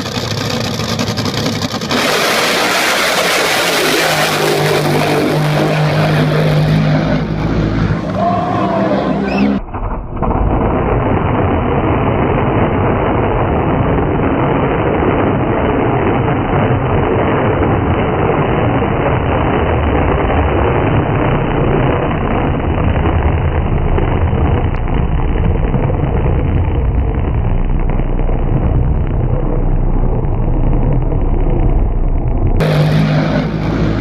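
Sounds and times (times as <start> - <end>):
motorboat running at speed: 0.0 - 34.0.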